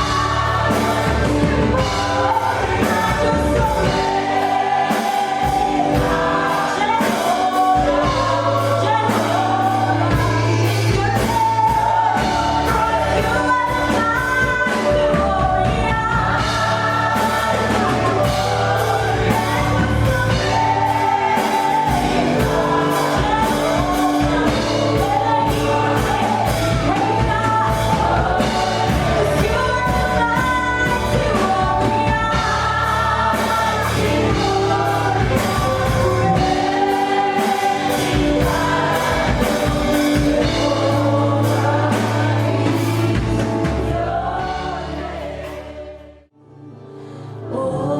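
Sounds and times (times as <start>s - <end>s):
instrumental accompaniment with beat: 0.0s - 45.9s
voices singing gospel song: 0.0s - 46.3s.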